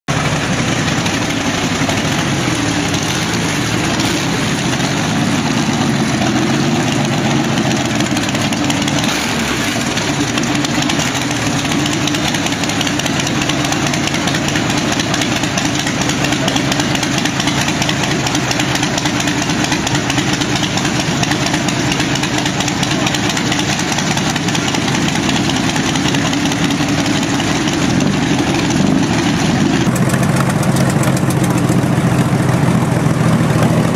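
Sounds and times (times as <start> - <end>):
loud engine running at low revs: 0.1 - 33.9.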